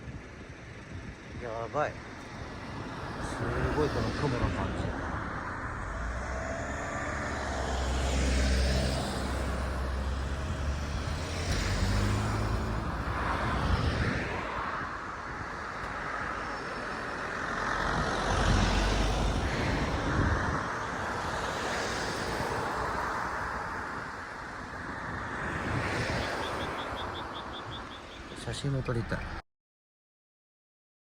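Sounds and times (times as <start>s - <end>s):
car engine and tyre rumble: 0.0s - 29.4s
vehicles passing: 0.0s - 29.4s.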